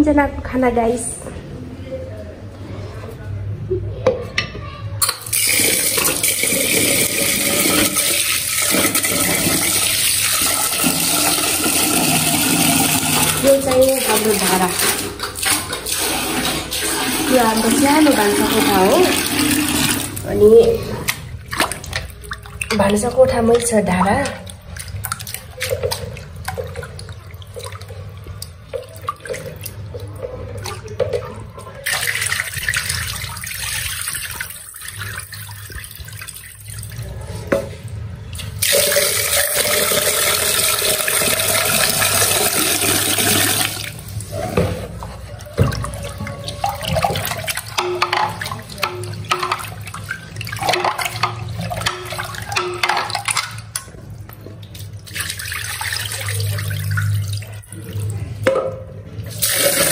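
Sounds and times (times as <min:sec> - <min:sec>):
water running from a tap: 0:05.0 - 0:37.2, 0:38.4 - 0:53.9, 0:54.6 - 0:58.1.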